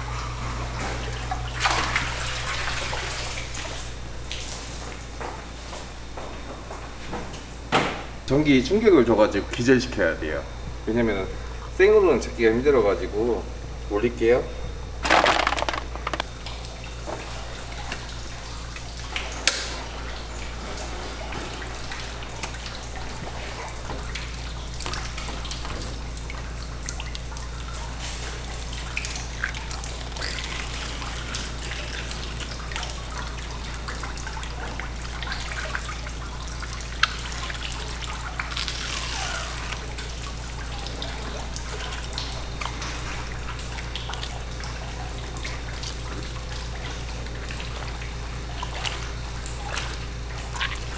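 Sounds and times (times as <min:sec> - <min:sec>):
constant low hum: 0:00.0 - 0:50.9.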